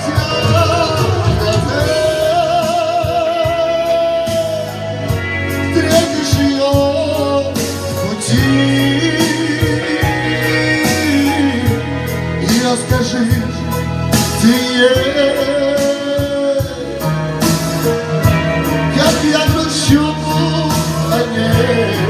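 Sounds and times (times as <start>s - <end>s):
band accompaniment with beat: 0.0s - 22.0s
person singing with vibrato: 0.0s - 22.0s.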